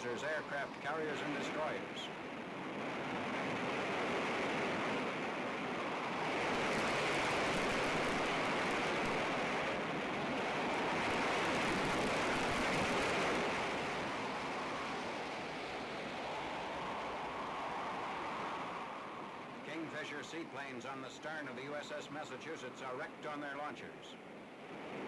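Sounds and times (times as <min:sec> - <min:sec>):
heavy seas rushing: 0:00.0 - 0:25.0
storm wind: 0:00.0 - 0:25.0.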